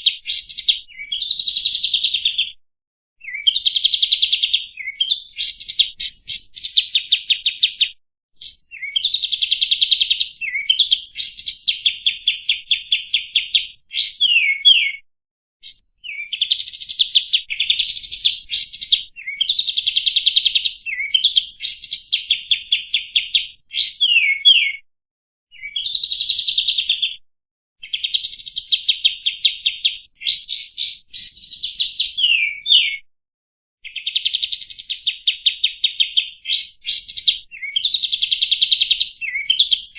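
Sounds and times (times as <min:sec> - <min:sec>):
songbird trilling and whistling: 0:00.0 - 0:02.6, 0:03.2 - 0:15.0, 0:15.6 - 0:24.8, 0:25.5 - 0:27.2, 0:27.8 - 0:33.1, 0:33.8 - 0:39.9.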